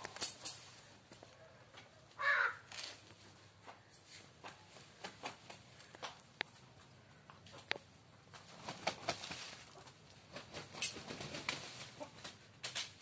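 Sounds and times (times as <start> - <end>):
rooster moving on brick paving: 0.0 - 13.0.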